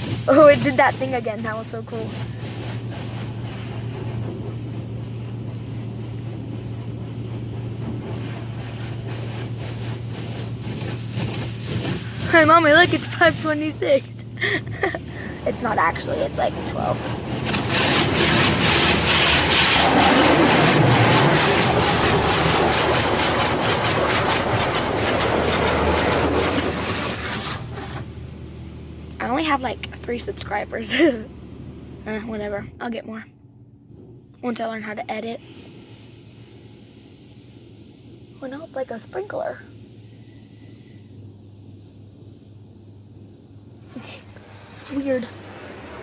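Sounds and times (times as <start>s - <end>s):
water spraying and rushing: 0.0s - 32.6s, 35.2s - 41.2s, 44.0s - 46.0s
car wash machinery humming: 0.0s - 46.0s.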